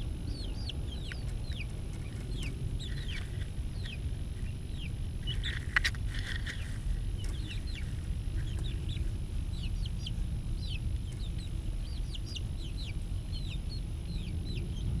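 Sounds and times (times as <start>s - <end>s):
chicks peeping: 0.0s - 15.0s
steady low rumble: 0.0s - 15.0s.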